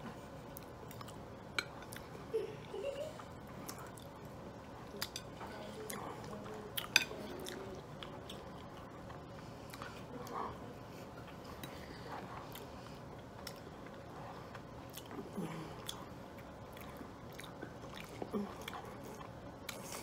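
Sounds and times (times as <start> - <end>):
low room hum: 0.0 - 20.0
chewing and mouth smacking: 0.4 - 2.3, 3.2 - 20.0.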